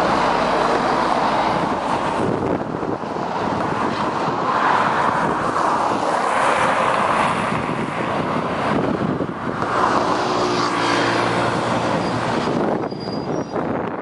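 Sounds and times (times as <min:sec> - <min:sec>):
bus driving past: 0:00.0 - 0:13.8
road traffic noise: 0:00.0 - 0:14.0.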